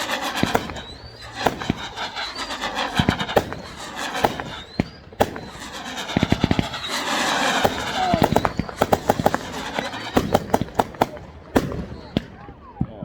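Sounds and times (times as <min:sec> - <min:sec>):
firework whistles: 0:00.0 - 0:12.8
fireworks bangs and crackling: 0:00.0 - 0:13.0.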